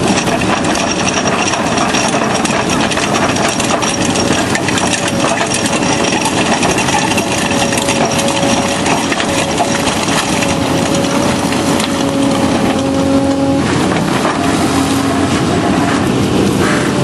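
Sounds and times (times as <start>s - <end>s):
drum cutter grinding rock: 0.0s - 17.0s
steady machine whine: 0.0s - 17.0s.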